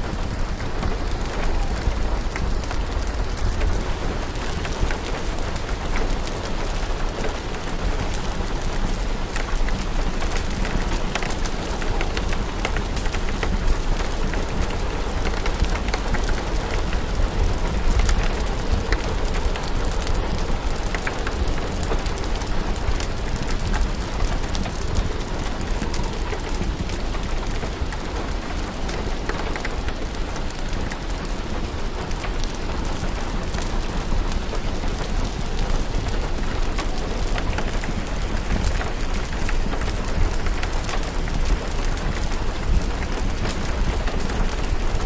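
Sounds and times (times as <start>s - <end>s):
fire crackling and popping: 0.0s - 45.0s
steady rain: 0.0s - 45.0s.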